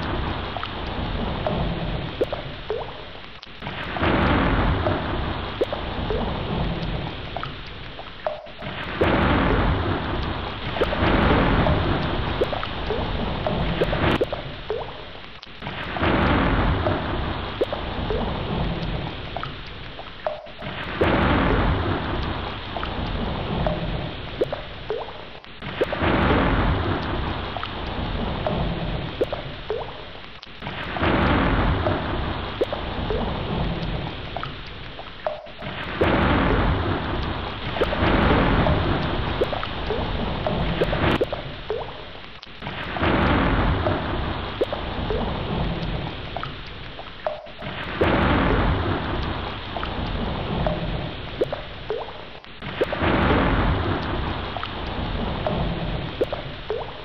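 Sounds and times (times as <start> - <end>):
thunder rumbling: 0.0 - 3.0, 3.6 - 7.5, 8.3 - 15.0, 15.6 - 19.5, 20.3 - 29.9, 30.6 - 34.5, 35.3 - 42.0, 42.6 - 46.5, 47.3 - 57.0
heavy rain falling: 0.0 - 57.0.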